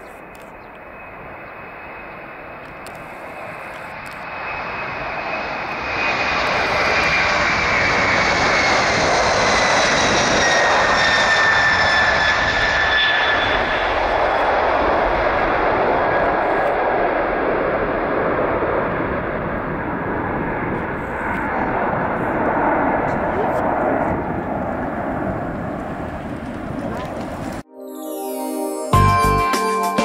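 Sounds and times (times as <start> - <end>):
high engine whine: 0.0 - 27.7
jet engines roaring at takeoff: 0.0 - 27.7.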